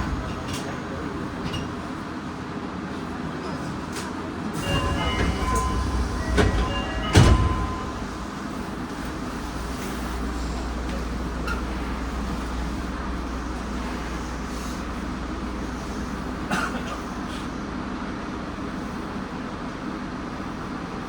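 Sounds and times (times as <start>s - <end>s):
subway car rumble and hum: 0.0s - 21.0s.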